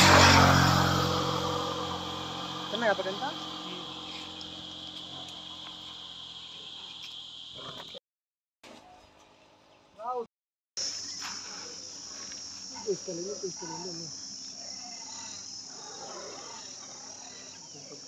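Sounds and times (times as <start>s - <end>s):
high-pitched insect drone: 0.0s - 8.0s, 10.8s - 18.0s.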